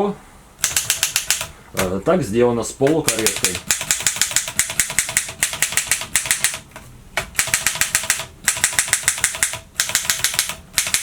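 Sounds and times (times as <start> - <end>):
typewriter keys striking: 0.6 - 1.9, 2.9 - 11.0.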